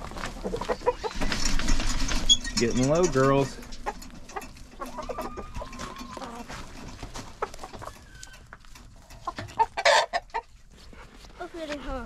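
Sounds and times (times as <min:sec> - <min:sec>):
small ticks and scratches: 0:00.0 - 0:11.9
hens clucking and calling: 0:00.0 - 0:12.0.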